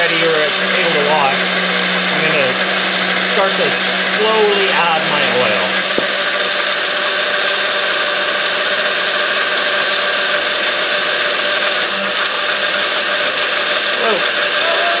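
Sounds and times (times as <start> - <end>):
blender running: 0.0 - 15.0.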